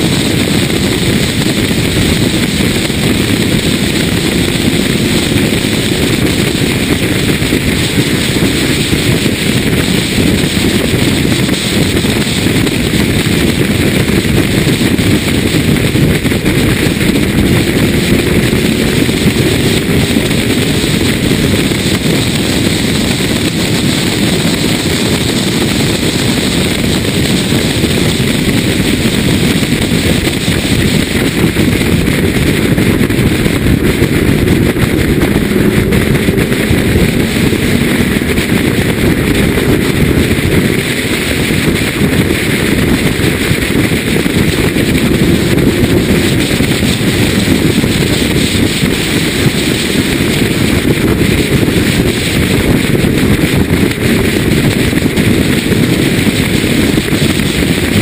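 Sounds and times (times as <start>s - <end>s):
car engine running hard: 0.0s - 58.0s
wind noise on microphone: 0.0s - 58.0s.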